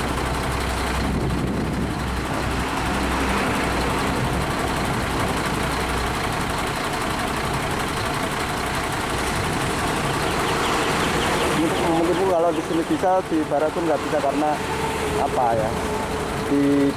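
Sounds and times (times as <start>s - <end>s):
traffic noise: 0.0s - 16.9s
truck engines idling: 0.0s - 16.9s.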